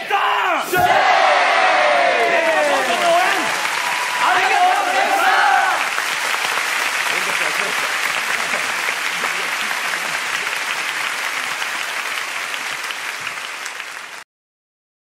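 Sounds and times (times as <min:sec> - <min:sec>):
audience applauding: 0:01.8 - 0:14.2.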